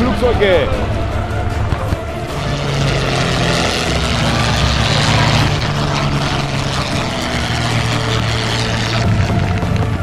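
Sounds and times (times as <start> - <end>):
propeller plane engine drone: 0.7 - 10.0.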